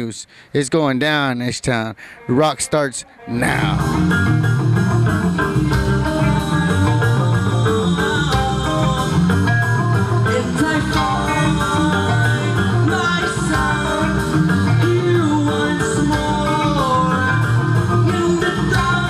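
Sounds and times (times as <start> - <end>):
person singing: 2.2 - 19.0
electric guitars: 3.2 - 19.0
bass guitar: 3.3 - 19.0.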